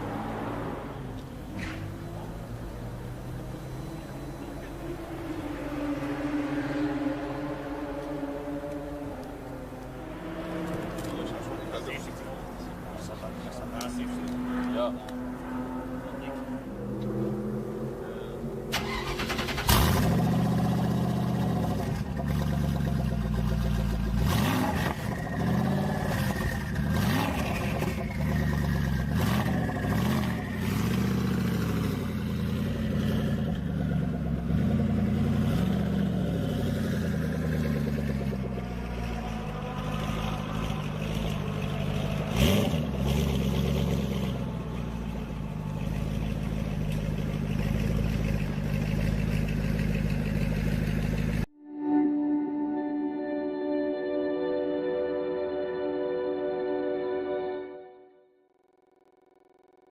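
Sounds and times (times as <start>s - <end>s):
car engine revving: 0.0s - 51.5s.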